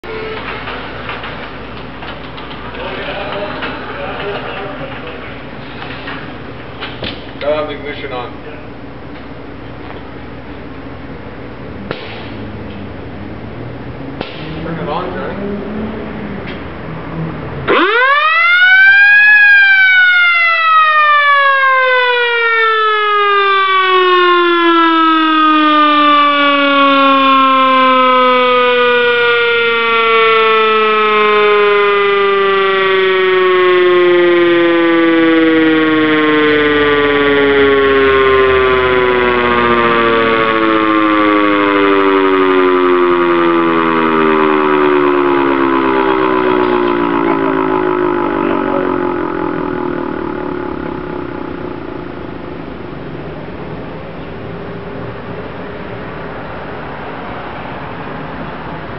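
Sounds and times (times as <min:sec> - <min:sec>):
fire engine siren wailing: 0:00.0 - 0:06.6, 0:07.4 - 0:58.9.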